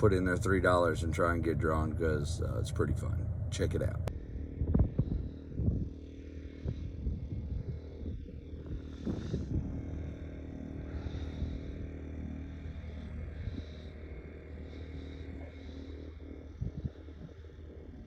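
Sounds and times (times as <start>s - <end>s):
boat motor droning: 0.0s - 18.0s.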